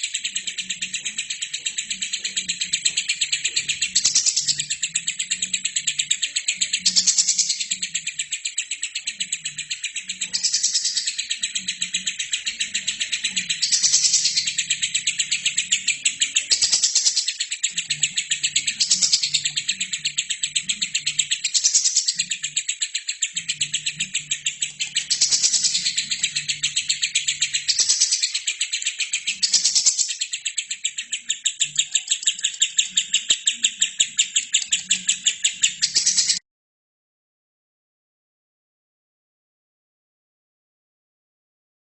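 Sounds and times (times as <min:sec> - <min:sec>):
lovebird chattering high chirps: 0:00.0 - 0:36.4.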